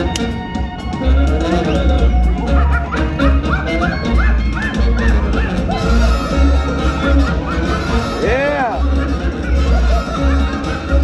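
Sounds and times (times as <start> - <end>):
upbeat music with heavy bass: 0.0 - 11.0.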